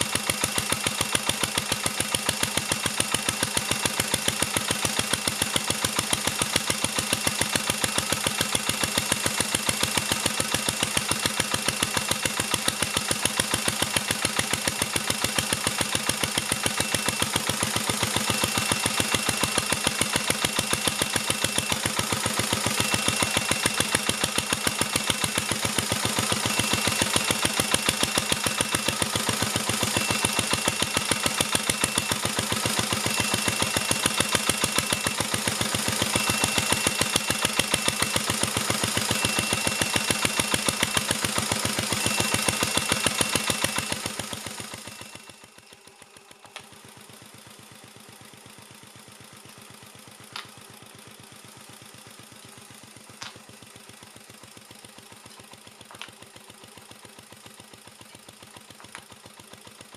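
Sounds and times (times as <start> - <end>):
stationary engine running: 0.0 - 59.9.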